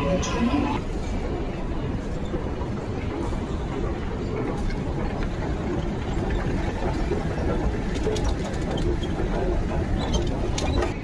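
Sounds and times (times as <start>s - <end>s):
train rumble from on board: 0.0s - 11.0s.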